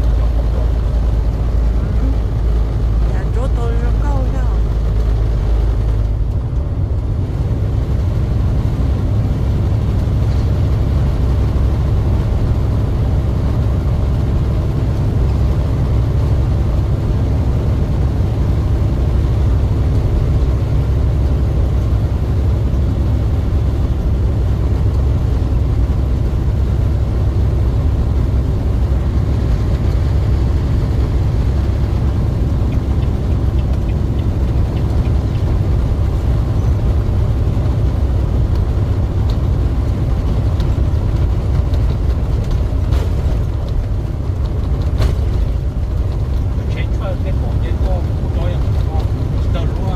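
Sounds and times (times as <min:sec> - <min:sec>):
truck engine and road rumble: 0:00.0 - 0:49.9.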